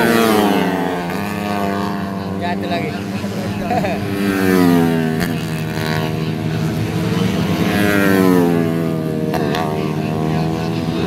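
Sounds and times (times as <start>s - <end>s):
motorcycles passing at speed: 0.0s - 11.0s
steady engine drone: 0.0s - 11.0s.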